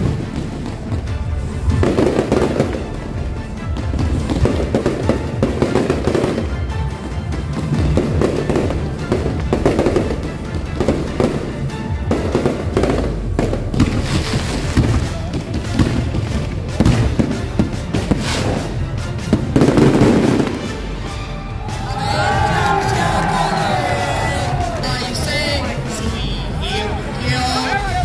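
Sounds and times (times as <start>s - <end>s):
fireworks bursting and crackling: 0.0s - 26.5s
music playing: 0.0s - 28.0s.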